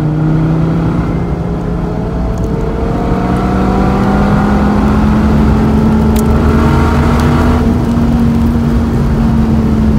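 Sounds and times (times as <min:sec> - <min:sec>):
car engine accelerating: 0:00.0 - 0:09.9.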